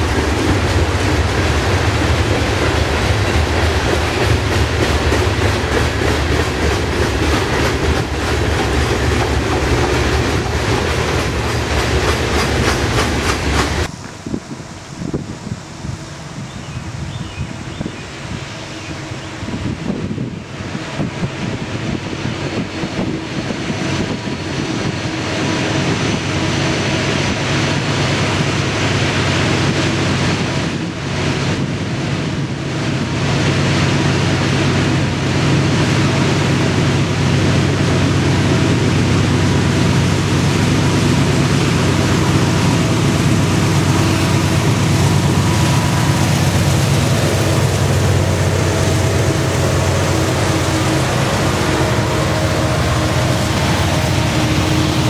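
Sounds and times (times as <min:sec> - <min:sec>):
diesel locomotives passing: 0:00.0 - 0:55.0.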